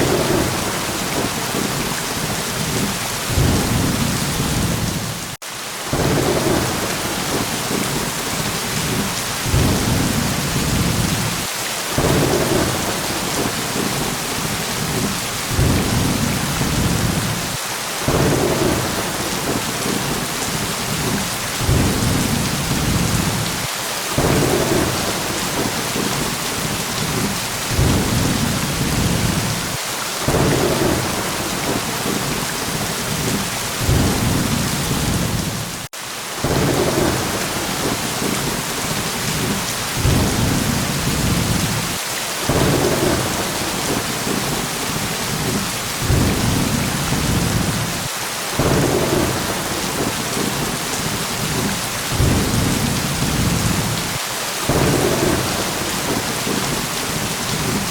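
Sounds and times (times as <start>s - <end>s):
heavy rain: 0.0s - 57.9s
low thunder rumbles: 0.0s - 57.9s.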